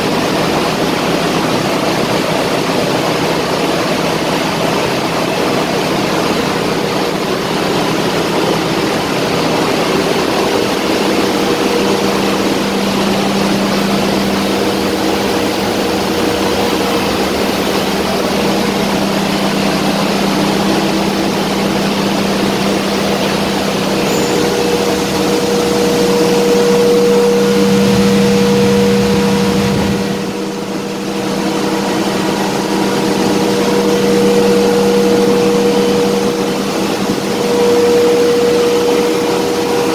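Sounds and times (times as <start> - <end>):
ship engine room machinery hum: 0.0 - 39.9.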